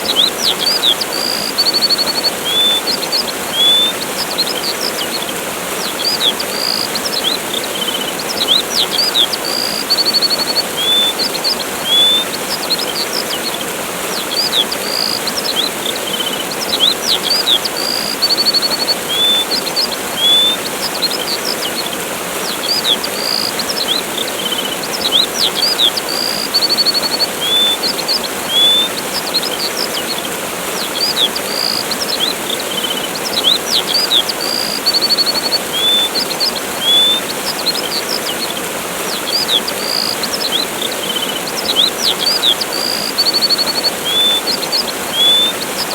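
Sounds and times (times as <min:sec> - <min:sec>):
small birds chirping: 0:00.0 - 0:45.9
waterfall rushing: 0:00.0 - 0:45.9.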